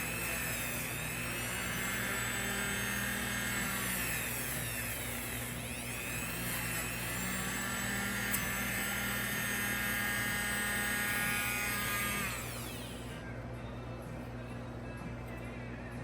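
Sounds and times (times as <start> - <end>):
rotary tool whining: 0.0 - 13.4.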